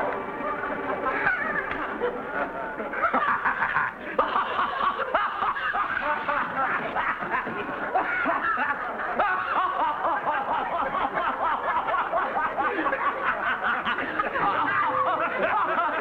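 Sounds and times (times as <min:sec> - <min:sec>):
crowd laughing: 0:00.0 - 0:16.0.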